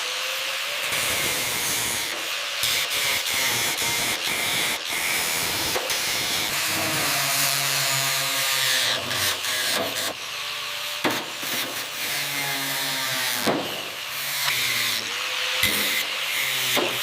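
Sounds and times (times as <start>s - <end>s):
power tool humming: 0.0s - 17.0s.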